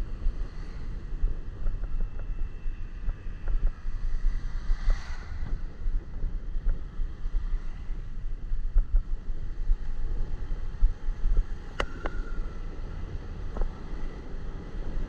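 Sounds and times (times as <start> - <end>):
motorcycle engine and road noise: 0.0 - 15.0
wind buffeting microphone: 0.0 - 15.0.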